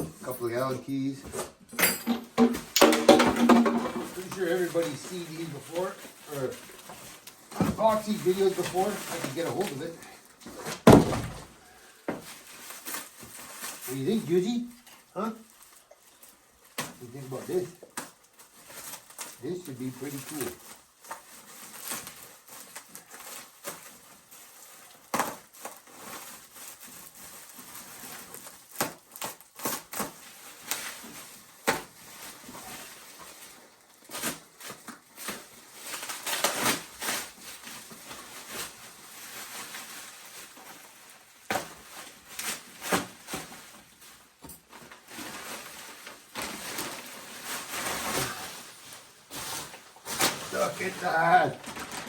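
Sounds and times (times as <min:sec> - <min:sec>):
packaging rustling and crinkling: 0:02.0 - 0:52.0.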